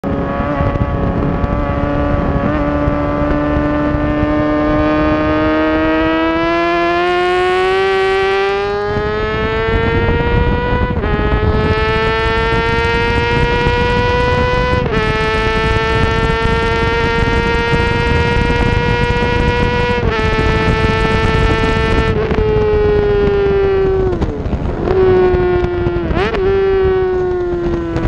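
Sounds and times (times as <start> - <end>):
motorcycle engine accelerating: 0.0 - 28.0
wind rushing: 0.0 - 28.0.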